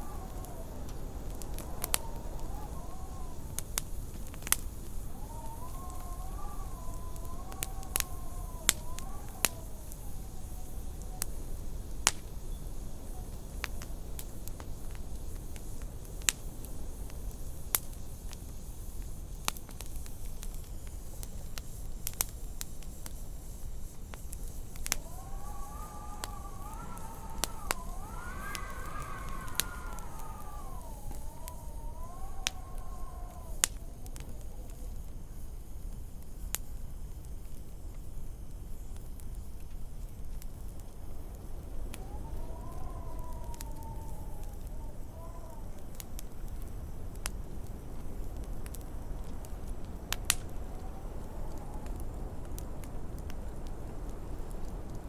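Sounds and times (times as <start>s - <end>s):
wavering wind howl: 0.0s - 17.1s, 23.4s - 36.1s, 40.6s - 55.0s
wood fire crackling: 0.0s - 55.0s.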